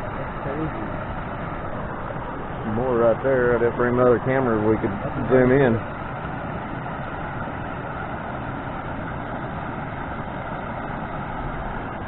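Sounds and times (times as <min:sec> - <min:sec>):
water rushing down a channel: 0:00.0 - 0:12.0.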